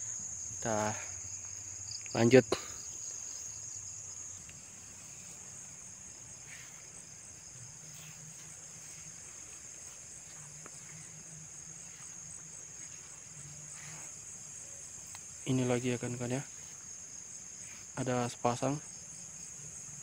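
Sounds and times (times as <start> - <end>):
night insects chirring: 0.0 - 20.0.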